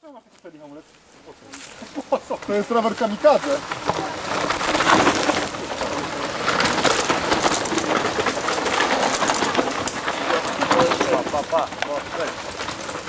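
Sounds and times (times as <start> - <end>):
bike tyres crunching over dirt: 0.0 - 13.0.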